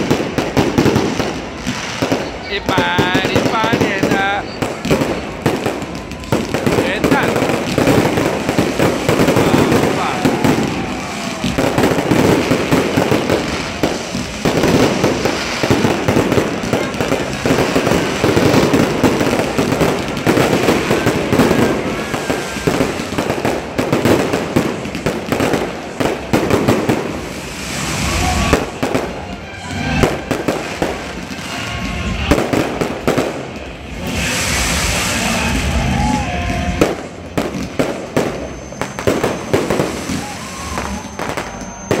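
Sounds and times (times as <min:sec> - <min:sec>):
deep fireworks booms: 0:00.0 - 0:42.0
fireworks bangs and crackling: 0:00.0 - 0:42.0.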